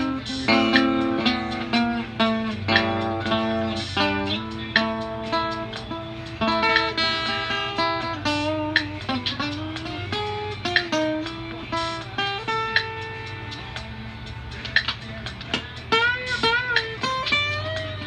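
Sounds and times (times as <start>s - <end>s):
plucked guitar notes: 0.0s - 18.0s.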